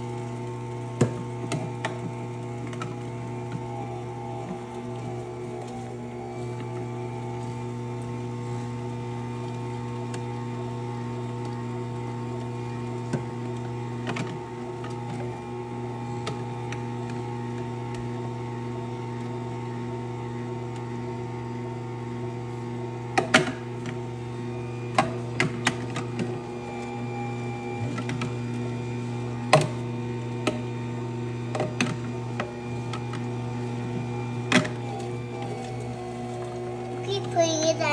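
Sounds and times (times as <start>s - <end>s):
juicer motor humming: 0.0s - 37.9s.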